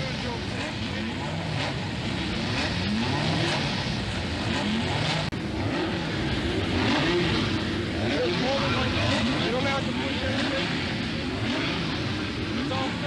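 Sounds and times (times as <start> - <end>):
racing car engines revving: 0.0 - 13.0.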